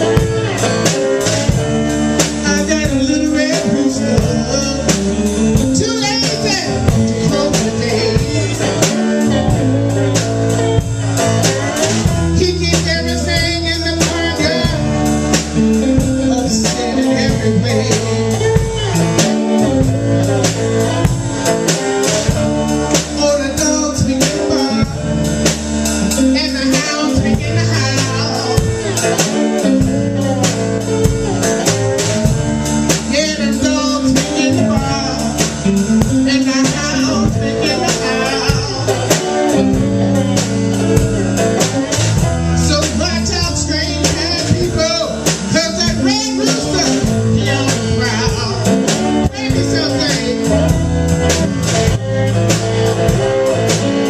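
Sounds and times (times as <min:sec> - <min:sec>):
blues band playing: 0:00.0 - 0:54.0
repeating bass line: 0:00.0 - 0:54.0.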